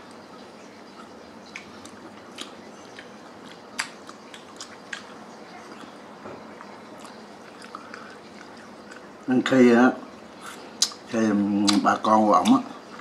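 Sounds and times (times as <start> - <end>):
soft chewing: 0.0 - 9.3, 10.3 - 11.8.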